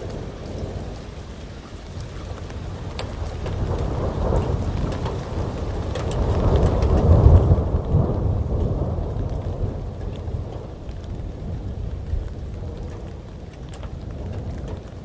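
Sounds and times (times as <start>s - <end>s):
heavy rain hiss: 0.0s - 15.0s
raindrops ticking close by: 0.0s - 15.0s
rolling thunder: 0.0s - 15.0s.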